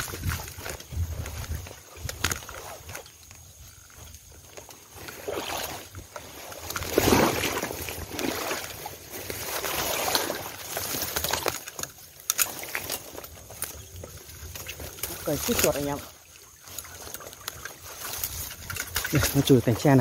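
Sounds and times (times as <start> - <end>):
bamboo leaves rustling and crackling: 0.0 - 20.0.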